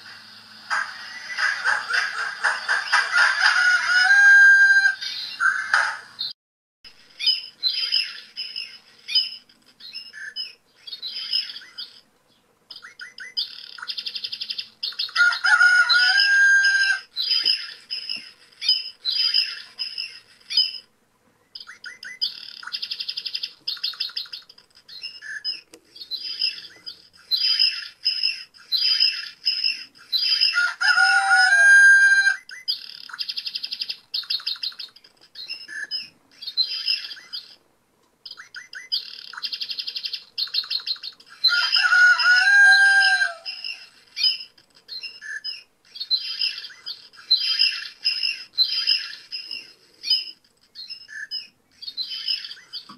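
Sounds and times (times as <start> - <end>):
songbird chirping: 0.0 - 6.4, 7.0 - 37.6, 38.2 - 52.9.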